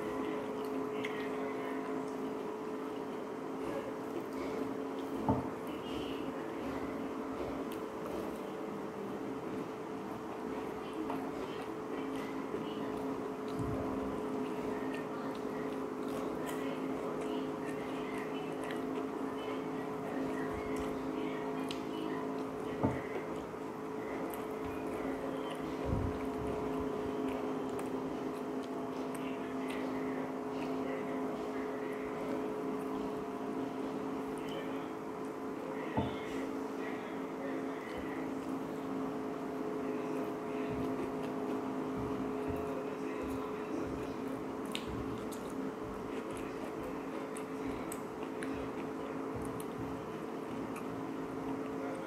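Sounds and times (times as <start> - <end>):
chewing and squelching: 0.0 - 8.8, 9.6 - 35.5, 37.6 - 52.0
machine hum: 0.0 - 52.0.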